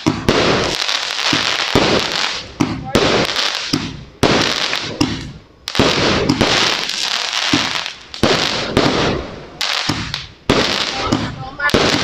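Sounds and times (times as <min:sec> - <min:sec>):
crackling sparks: 0:00.0 - 0:12.0
fireworks bangs: 0:00.0 - 0:12.0.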